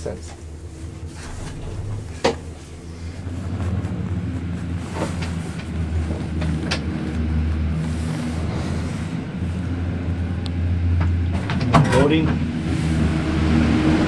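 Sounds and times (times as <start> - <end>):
cable car cabin rumble: 0.0 - 14.0.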